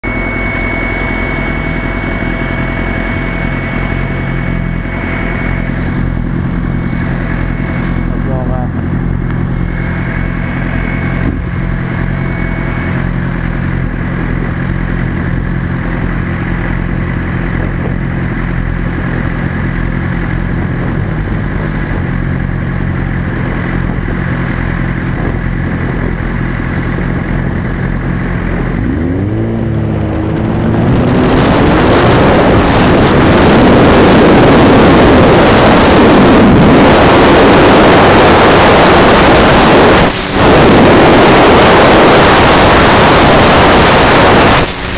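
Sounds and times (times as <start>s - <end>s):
motorcycle engine idling and revving: 0.0s - 44.9s
wind rush on microphone: 0.0s - 44.9s.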